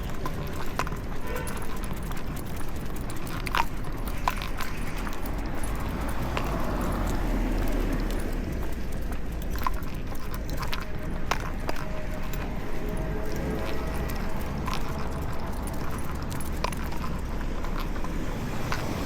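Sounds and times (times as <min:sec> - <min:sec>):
dog claws clicking on pavement: 0:00.0 - 0:19.0
footsteps on pavement: 0:00.0 - 0:19.0
street noise rumble: 0:00.0 - 0:19.0.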